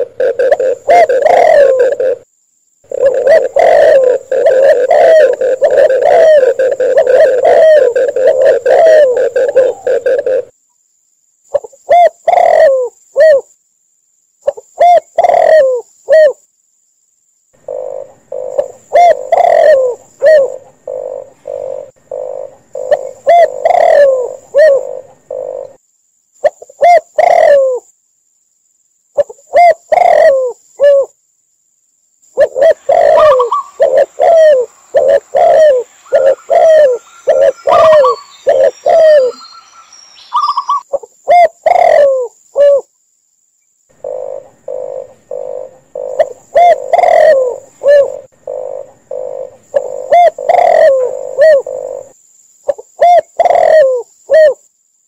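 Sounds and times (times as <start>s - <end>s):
doves cooing: 0.0s - 10.5s, 11.5s - 13.5s, 14.5s - 16.4s, 17.6s - 25.8s, 26.4s - 27.9s, 29.2s - 31.1s, 32.4s - 42.9s, 44.0s - 54.6s.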